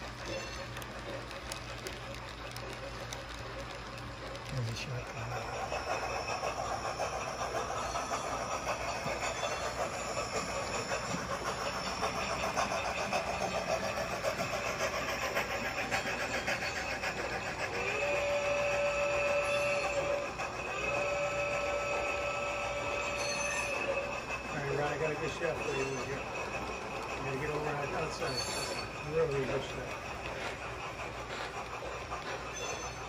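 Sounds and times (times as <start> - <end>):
model steam locomotive chuffing: 0.0 - 33.0
train cars clattering on track: 0.0 - 33.0.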